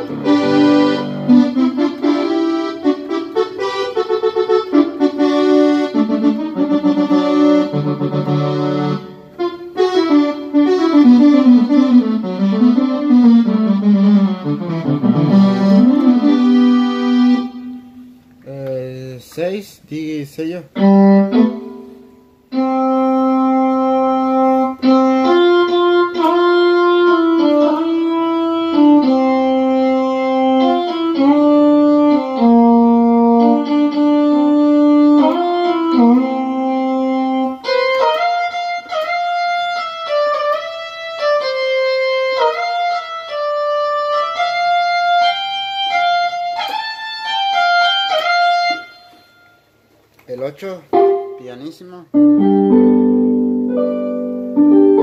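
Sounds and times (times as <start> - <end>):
synthesizer melody: 0.0 - 18.2, 20.8 - 49.7.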